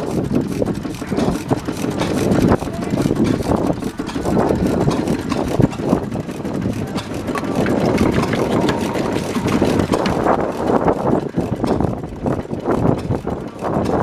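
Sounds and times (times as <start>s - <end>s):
mechanical clatter and knocks: 0.0s - 14.0s
stationary engines running: 0.0s - 14.0s.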